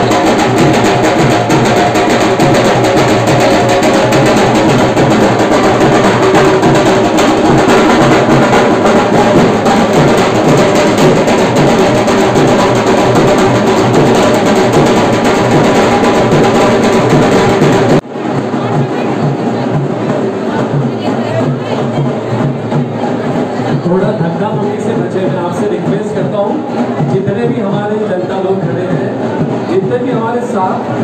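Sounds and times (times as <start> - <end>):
loud drum-heavy music: 0.0 - 31.0.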